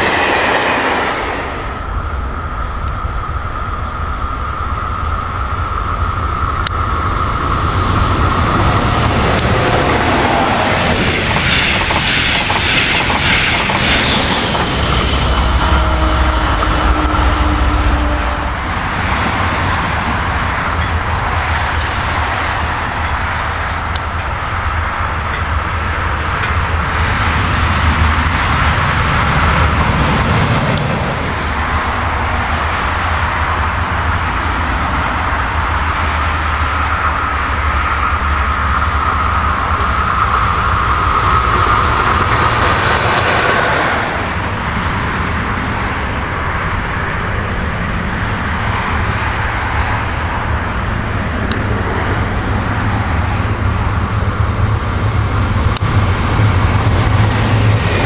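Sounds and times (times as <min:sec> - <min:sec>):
electric trains rumbling past: 0:00.0 - 0:58.0.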